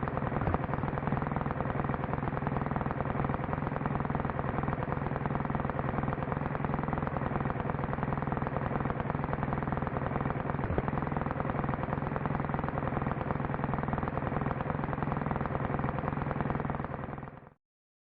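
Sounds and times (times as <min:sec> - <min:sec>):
model airplane engine buzzing: 0:00.0 - 0:17.5.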